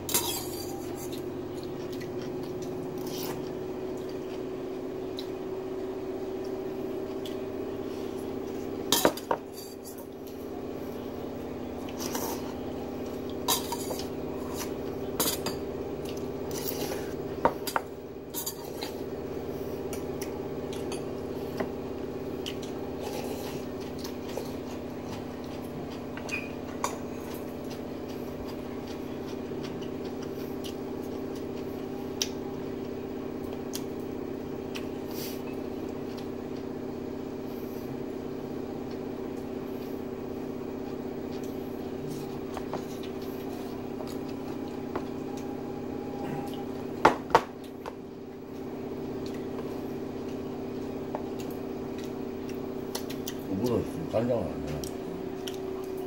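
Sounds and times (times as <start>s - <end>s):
low hum with fixed tones: 0.0s - 56.0s.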